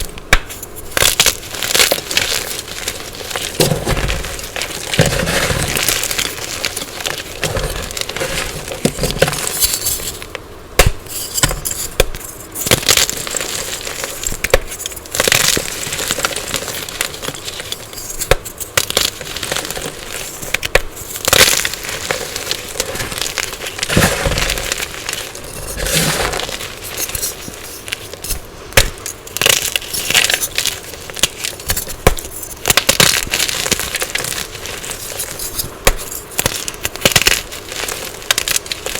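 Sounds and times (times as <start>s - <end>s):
chalk being crunched: 0.4s - 10.3s, 11.0s - 38.9s.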